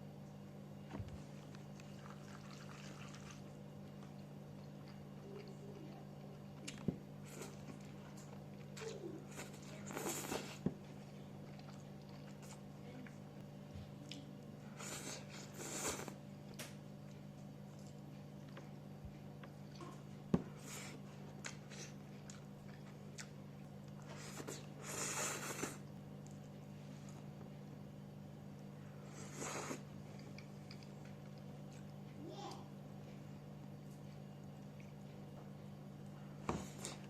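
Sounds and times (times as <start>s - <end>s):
chewing: 1.4s - 27.9s, 28.5s - 32.2s, 33.5s - 37.0s.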